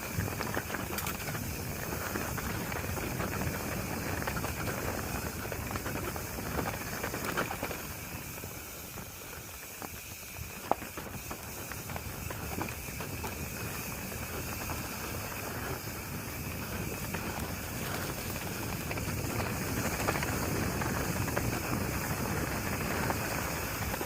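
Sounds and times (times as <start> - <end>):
bike tyres on dirt trail: 0.0 - 24.0
small rattles and ticks: 0.0 - 24.0.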